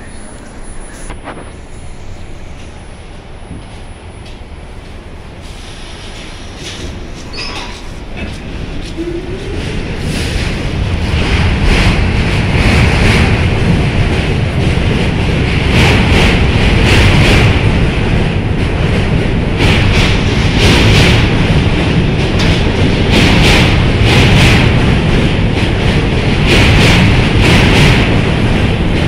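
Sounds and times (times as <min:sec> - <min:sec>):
subway train wheels rumbling on rail: 0:00.0 - 0:29.0.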